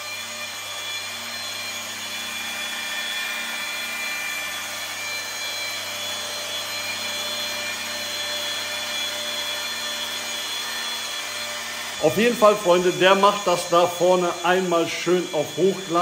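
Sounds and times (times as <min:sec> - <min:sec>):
machine polisher motor whine: 0:00.0 - 0:16.0.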